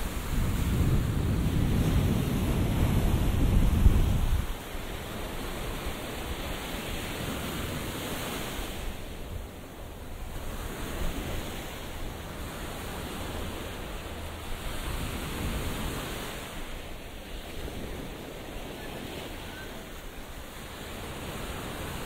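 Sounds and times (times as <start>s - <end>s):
waves breaking on beach: 0.0s - 22.0s.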